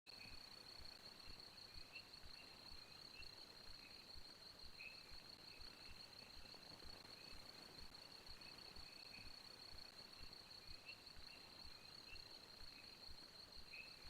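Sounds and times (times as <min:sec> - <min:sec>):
insect chirps: 0:00.1 - 0:14.0.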